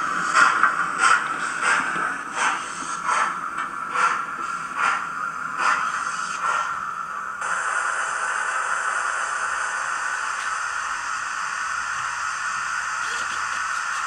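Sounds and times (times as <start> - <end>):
model steam locomotive hiss: 0.0 - 14.0.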